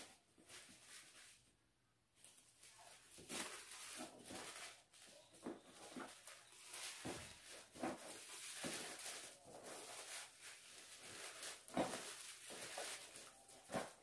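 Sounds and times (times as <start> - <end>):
wrapping paper rustling: 0.0 - 1.6, 2.2 - 14.0.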